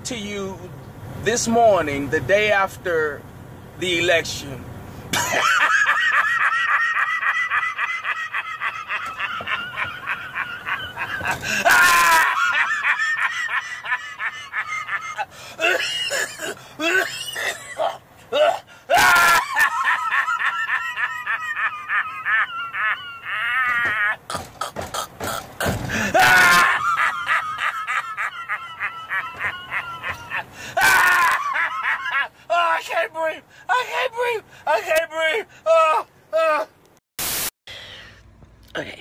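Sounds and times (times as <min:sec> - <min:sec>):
man laughing hysterically: 0:05.1 - 0:36.7.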